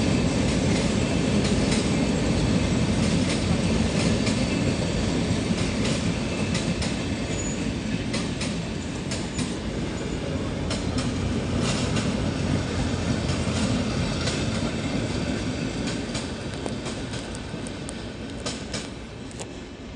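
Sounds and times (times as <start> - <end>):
train rumbling: 0.0 - 19.9
wheels clicking over rail joints: 3.0 - 19.6.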